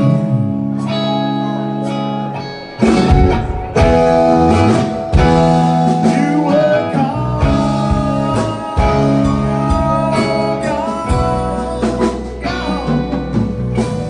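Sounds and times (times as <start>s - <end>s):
rock band music: 0.0s - 14.0s.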